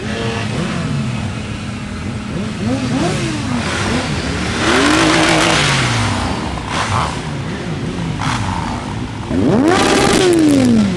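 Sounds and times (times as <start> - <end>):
motorcycle engines revving: 0.0 - 10.9.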